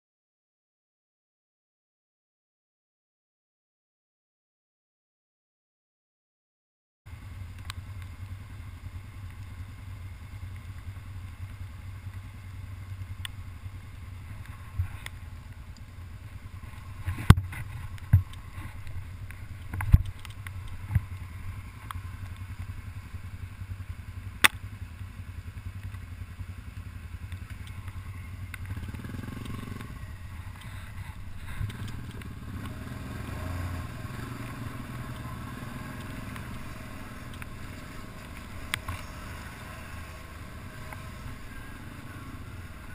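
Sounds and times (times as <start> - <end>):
atv engine droning: 7.1 - 42.9.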